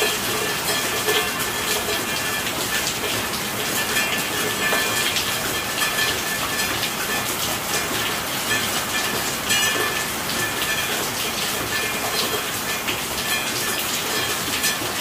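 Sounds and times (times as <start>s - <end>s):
rain drops ticking on hard surface: 0.0s - 15.0s
steady rain hiss: 0.0s - 15.0s.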